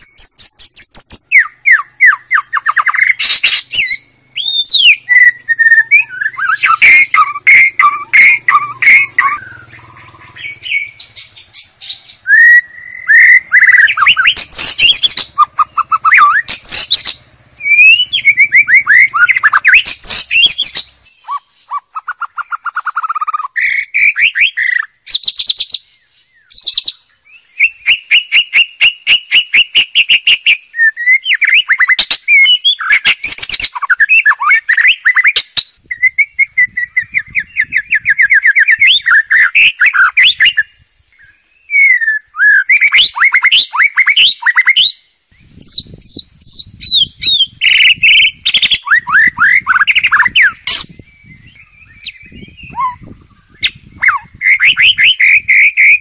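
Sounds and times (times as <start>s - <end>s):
bird singing varied song: 0.0s - 56.0s.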